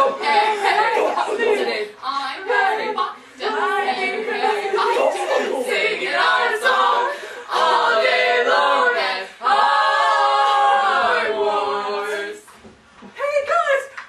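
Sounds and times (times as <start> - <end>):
voices singing a cappella: 0.0 - 12.6.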